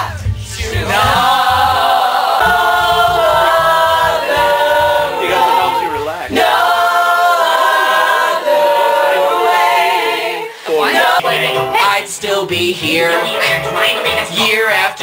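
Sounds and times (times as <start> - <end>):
group singing a pop song: 0.0 - 15.0.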